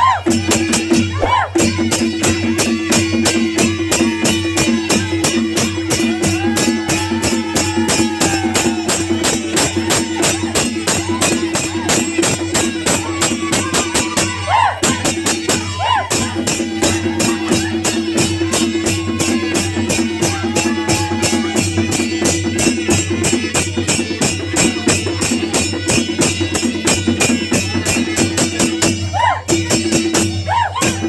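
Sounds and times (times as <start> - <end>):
drums: 0.0 - 31.0
small cymbals clashing: 0.3 - 31.0.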